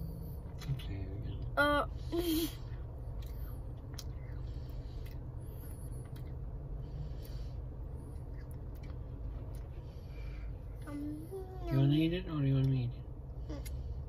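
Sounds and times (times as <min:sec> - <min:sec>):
low hum of car cabin: 0:00.0 - 0:14.0.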